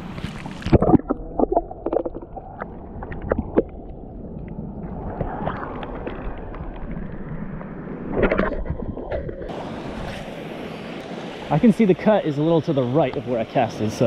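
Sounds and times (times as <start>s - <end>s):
muffled underwater water noise: 0.0s - 14.0s.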